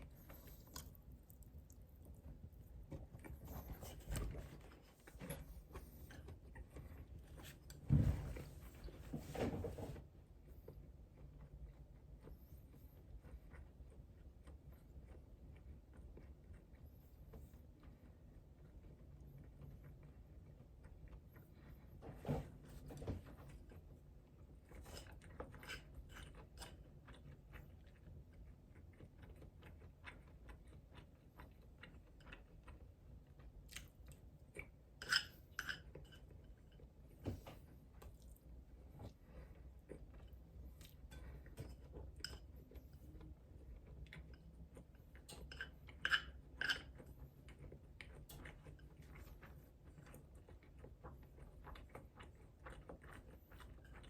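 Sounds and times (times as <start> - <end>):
person chewing food: 0.0 - 7.8, 10.3 - 22.0, 23.3 - 54.0.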